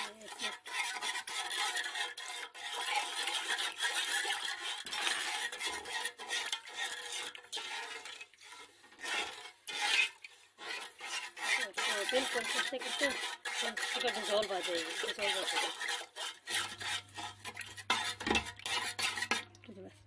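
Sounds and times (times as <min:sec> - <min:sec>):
spoon scraping metal pot: 0:00.0 - 0:19.9.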